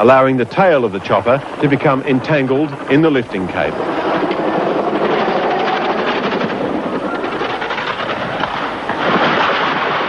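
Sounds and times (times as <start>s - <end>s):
helicopter rotors and engine: 0.0s - 10.0s.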